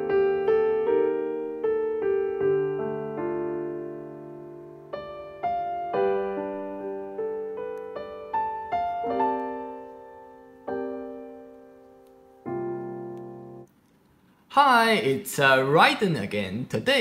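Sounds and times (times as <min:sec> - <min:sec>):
slow piano melody: 0:00.0 - 0:13.8.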